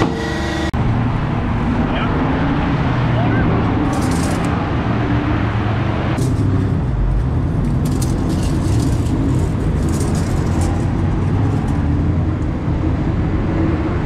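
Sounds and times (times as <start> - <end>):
racing engines droning: 0.0 - 14.0.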